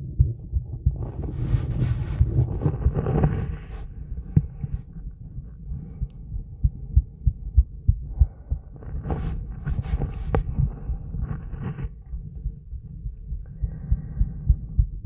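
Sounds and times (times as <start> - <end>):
heartbeat thumps: 0.0 - 15.0.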